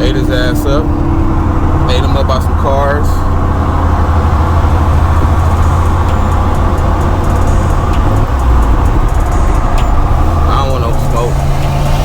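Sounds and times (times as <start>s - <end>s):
car engine deep drone: 0.0s - 12.0s.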